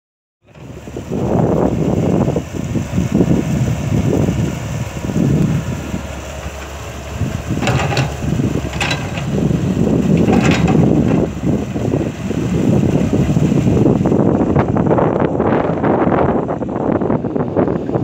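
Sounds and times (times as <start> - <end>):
excavator engine rumbling: 0.4 - 18.0.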